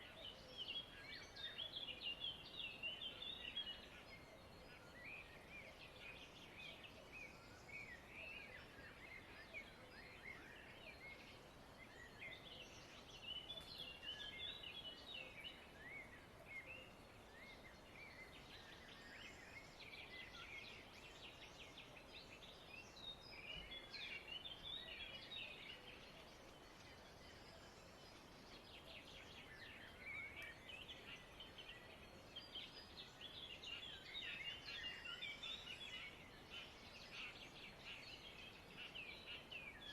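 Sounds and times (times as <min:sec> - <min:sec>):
low steady hiss: 0:00.0 - 0:39.9
small birds chirping: 0:00.0 - 0:39.9.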